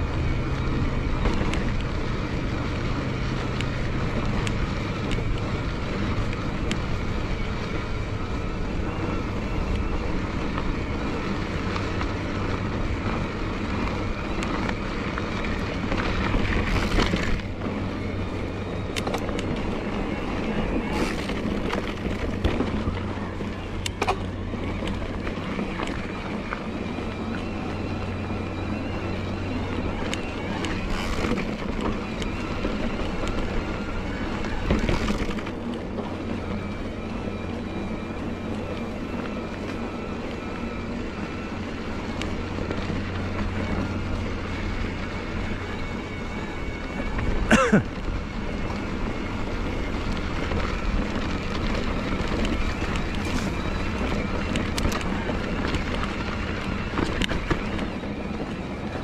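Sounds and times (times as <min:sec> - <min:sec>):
electric bike motor whining: 0:00.0 - 0:59.0.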